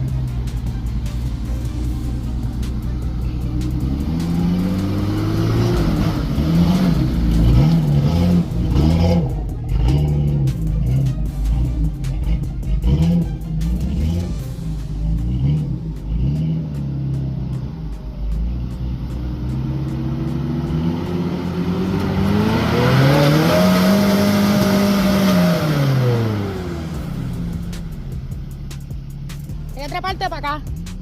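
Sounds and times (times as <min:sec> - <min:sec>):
engine revving: 0:00.0 - 0:31.0.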